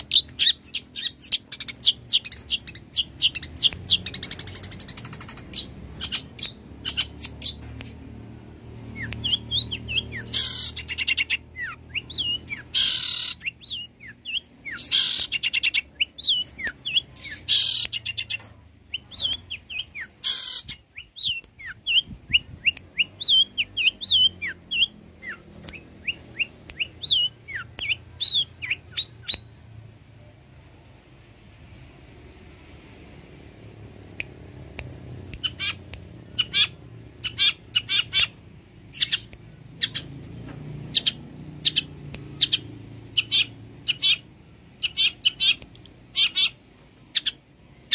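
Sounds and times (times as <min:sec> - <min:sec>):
bird chattering song: 0:00.0 - 0:08.1, 0:08.9 - 0:29.6, 0:35.4 - 0:40.2, 0:40.9 - 0:47.9.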